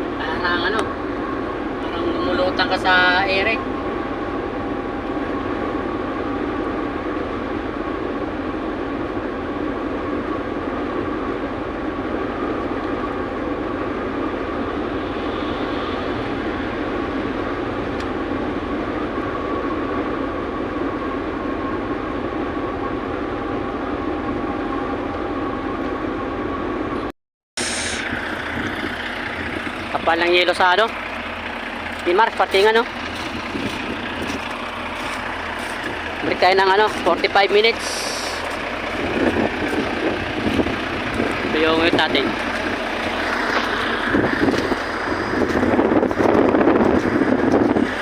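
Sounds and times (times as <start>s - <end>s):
truck engine and road noise: 0.0s - 48.0s.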